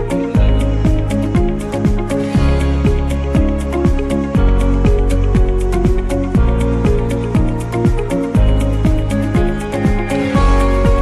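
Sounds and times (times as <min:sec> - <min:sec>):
held chords: 0:00.0 - 0:11.0
kick drum beat: 0:00.0 - 0:11.0.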